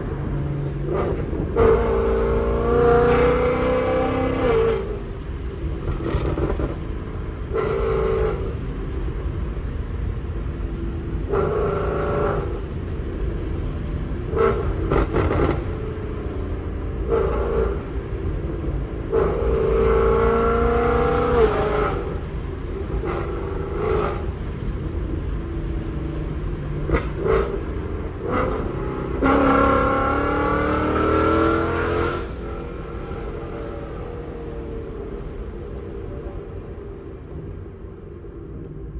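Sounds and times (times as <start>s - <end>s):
car engine accelerating hard: 0.0s - 38.9s
exhaust cracks: 3.1s - 35.6s.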